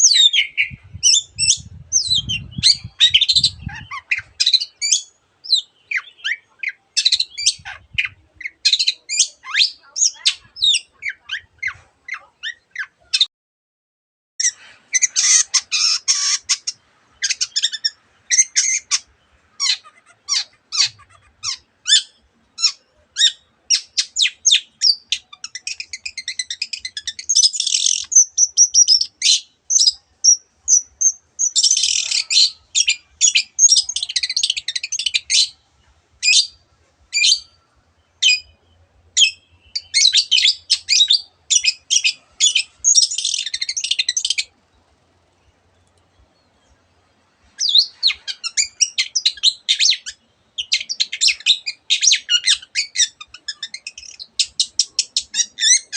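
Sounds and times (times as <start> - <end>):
shrike singing varied song: 0.0 - 13.3, 14.4 - 55.9.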